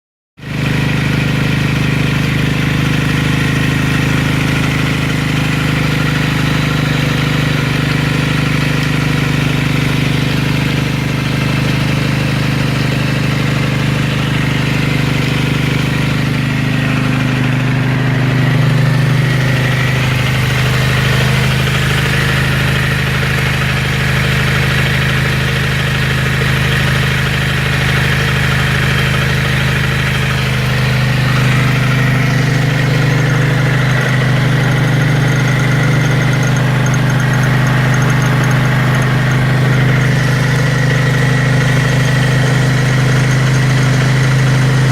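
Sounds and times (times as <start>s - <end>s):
motorcycle engine idling: 0.4s - 44.9s
strange engine noise: 0.4s - 44.9s.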